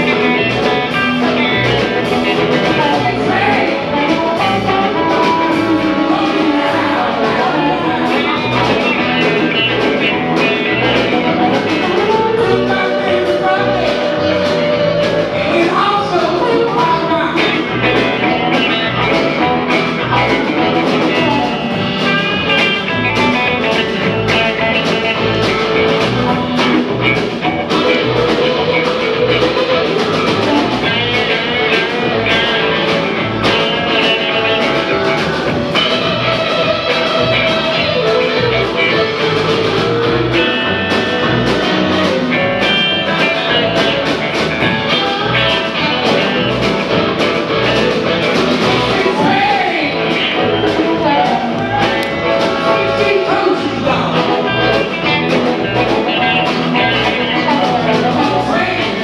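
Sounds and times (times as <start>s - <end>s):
bending lead guitar notes: 0.0s - 59.0s
live rock band playing: 0.0s - 59.0s.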